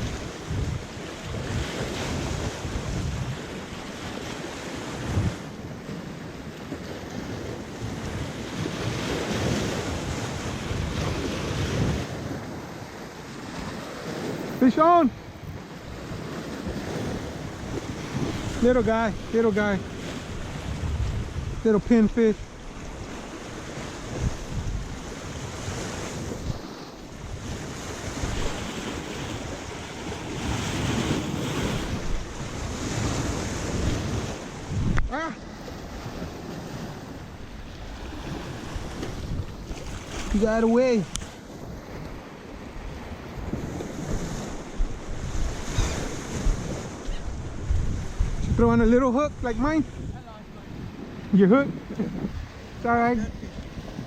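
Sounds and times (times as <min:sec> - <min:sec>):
waves washing in: 0:00.0 - 0:54.0
wind buffeting microphone: 0:00.0 - 0:54.0.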